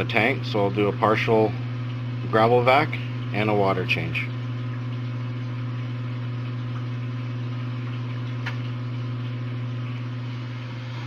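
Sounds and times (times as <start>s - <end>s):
aquarium gravel vacuum hissing: 0.0s - 11.0s.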